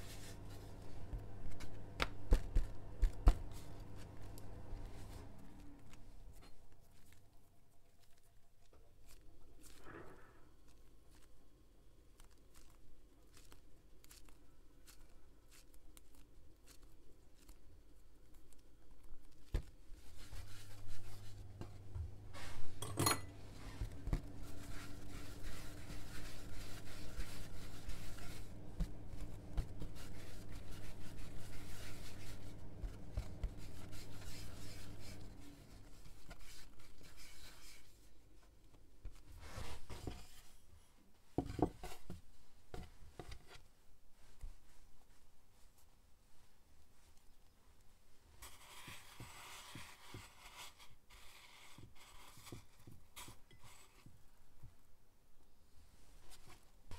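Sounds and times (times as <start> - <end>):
hands rubbing bread dough: 0.0 - 55.0.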